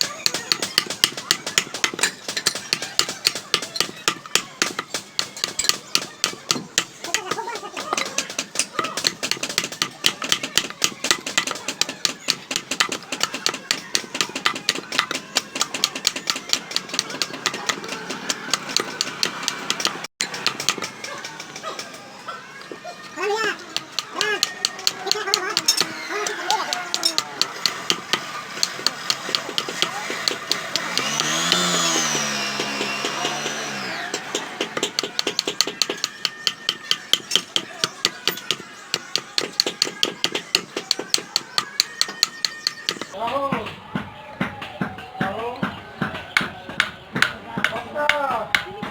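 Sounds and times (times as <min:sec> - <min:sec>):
hammer striking metal: 0:00.0 - 0:20.9, 0:23.8 - 0:43.2.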